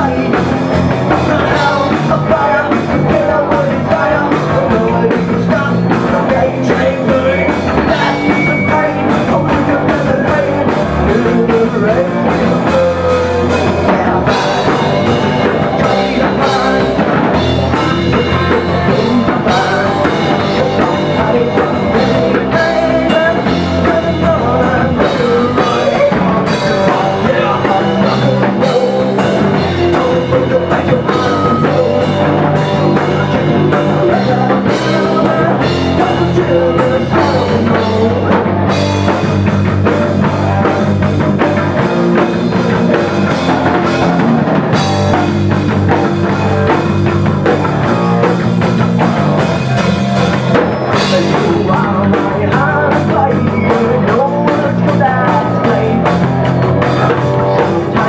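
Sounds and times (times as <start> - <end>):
live rock band playing: 0.0 - 58.0
man singing: 0.0 - 58.0.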